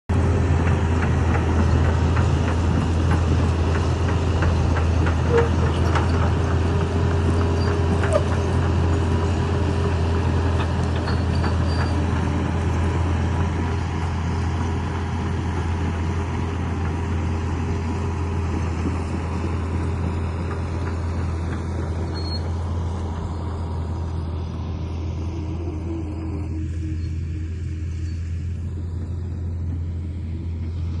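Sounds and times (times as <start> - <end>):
excavator diesel engine droning: 0.1 - 31.0.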